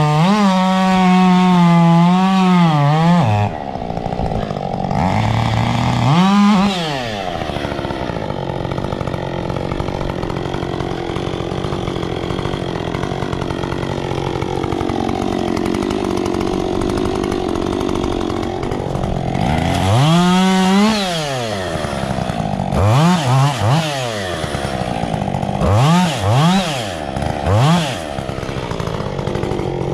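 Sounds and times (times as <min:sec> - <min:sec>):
chainsaw revving: 0:00.0 - 0:29.9.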